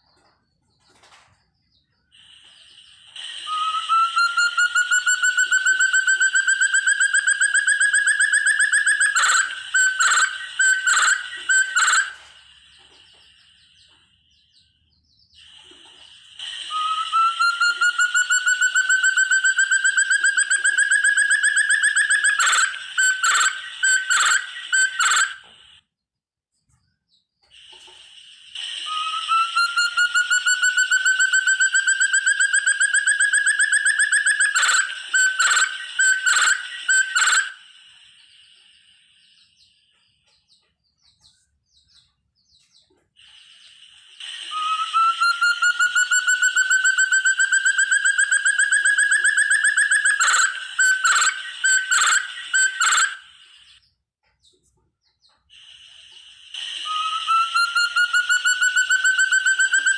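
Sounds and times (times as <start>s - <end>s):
partridge calling with pulsed trill: 2.2s - 14.7s, 15.4s - 25.7s, 28.8s - 54.6s, 56.6s - 59.9s.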